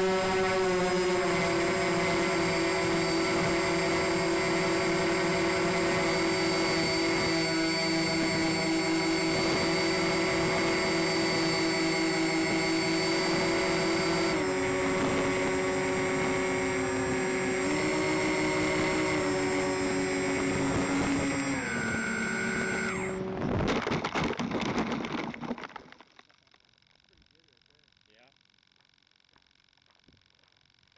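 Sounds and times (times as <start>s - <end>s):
model plane motors and propellers: 0.0s - 28.3s.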